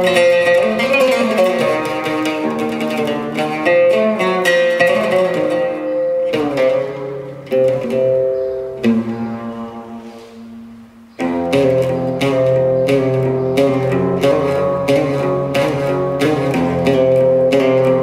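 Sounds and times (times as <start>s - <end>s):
oud plucked notes: 0.0s - 18.0s.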